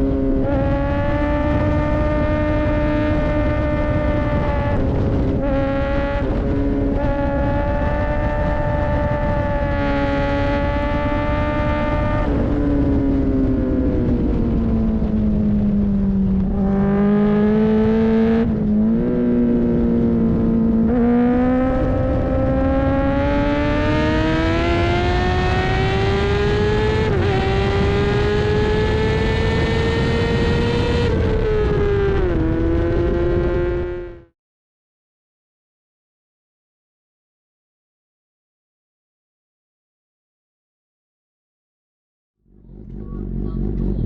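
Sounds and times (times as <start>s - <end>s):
racing motorcycle engine: 0.0s - 34.3s, 42.5s - 44.0s.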